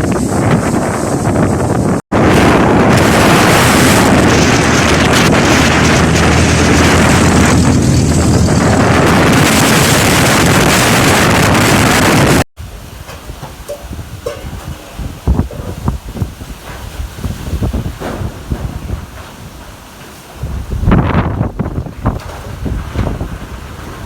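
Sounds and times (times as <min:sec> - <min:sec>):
storm wind buffeting microphone: 0:00.0 - 0:24.0.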